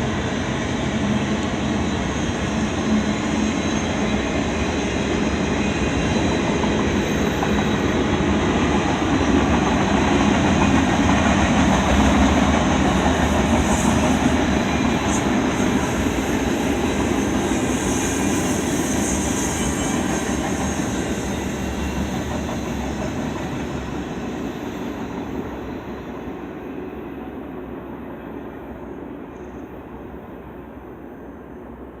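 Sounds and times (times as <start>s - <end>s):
freight train rolling on rails: 0.0s - 32.0s.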